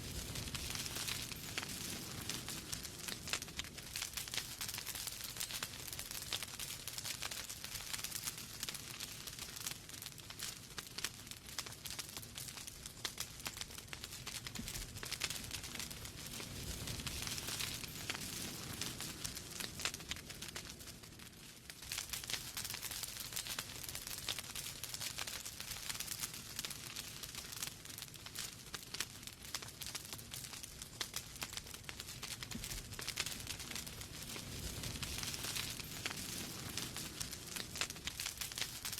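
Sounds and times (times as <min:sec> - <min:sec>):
fire crackling: 0:00.0 - 0:38.9
soft fire hiss: 0:00.0 - 0:38.9.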